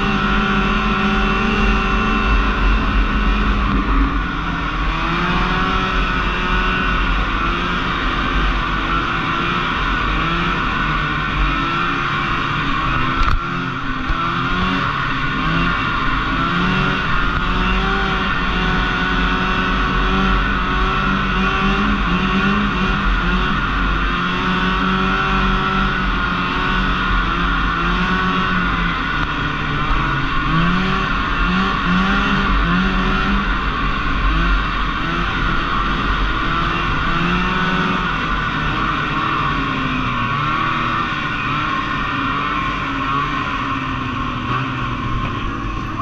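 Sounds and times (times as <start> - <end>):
snowmobile engine revving: 0.0 - 46.0.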